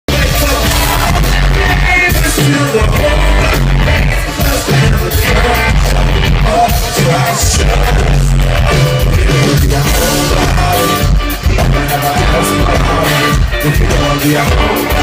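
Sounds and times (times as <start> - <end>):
band playing pop-country song: 0.1 - 15.0
person singing: 0.1 - 15.0.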